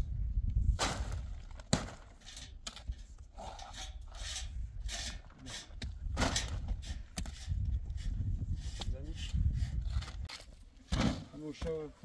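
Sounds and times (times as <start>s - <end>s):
scraping and rubbing of objects: 0.8s - 11.7s.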